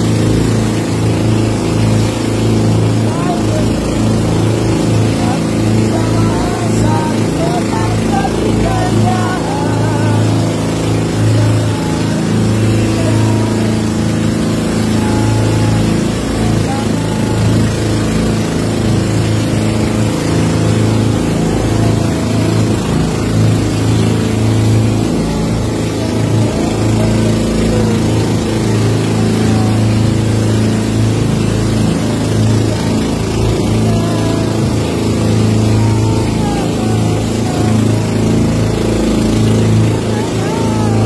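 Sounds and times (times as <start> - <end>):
motorboat engine humming: 0.0 - 41.0
water rushing past hull: 0.0 - 41.0
wind: 0.0 - 41.0.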